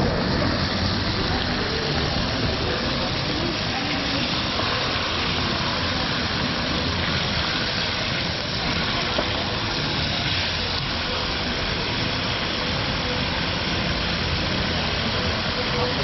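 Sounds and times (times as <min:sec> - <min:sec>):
faint indistinct voices: 0:00.0 - 0:16.0.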